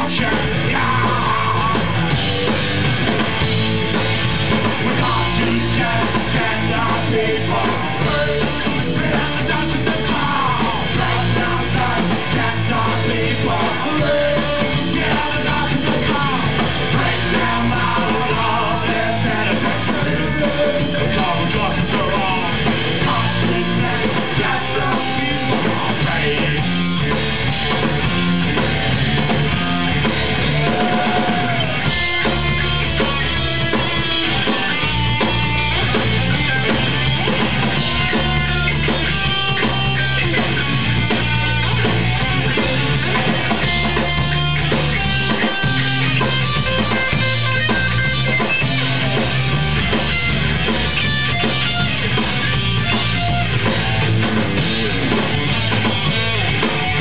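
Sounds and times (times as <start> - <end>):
punk rock band playing live: 0.0 - 57.0
yelled vocals: 0.0 - 57.0.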